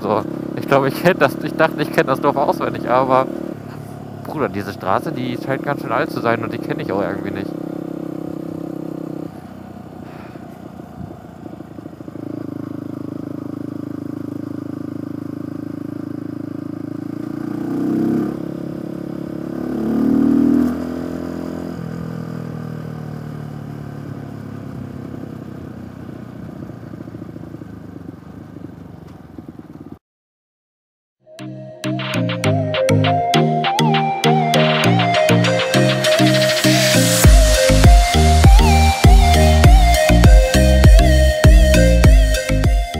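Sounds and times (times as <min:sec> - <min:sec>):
motorcycle engine running: 0:00.0 - 0:30.0, 0:34.4 - 0:42.9.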